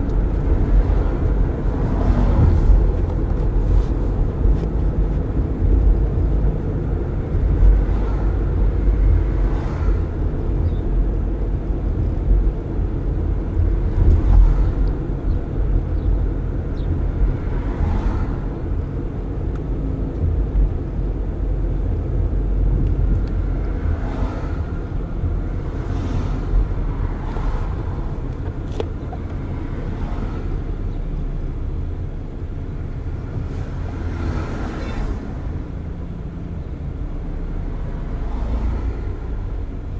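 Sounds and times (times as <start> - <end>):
traffic passing: 0.0 - 39.9
tyre and engine rumble: 0.0 - 39.9.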